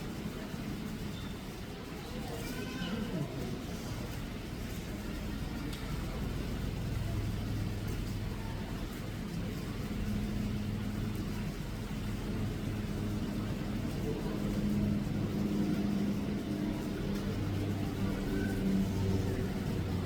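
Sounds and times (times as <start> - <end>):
faint murmuring voices: 0.0 - 20.0
low machine hum: 3.0 - 20.0.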